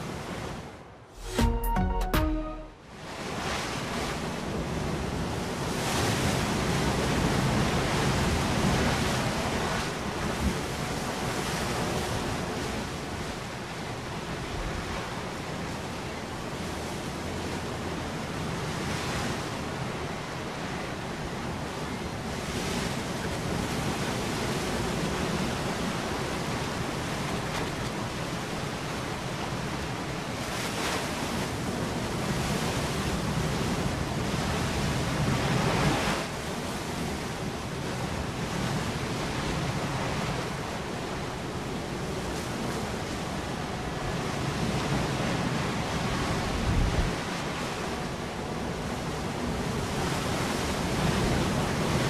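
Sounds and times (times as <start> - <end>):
wind: 0.0 - 52.0
open sea water rushing: 2.8 - 52.0.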